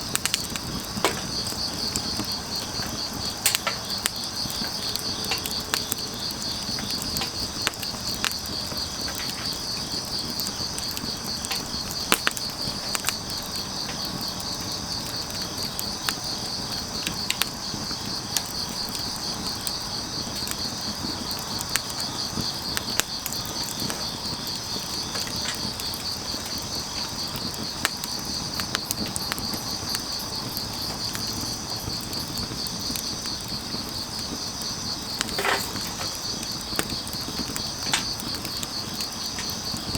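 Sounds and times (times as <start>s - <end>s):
crickets trilling: 0.0s - 39.9s
sharp fire pops: 0.0s - 39.9s
wood fire crackling: 0.0s - 39.9s.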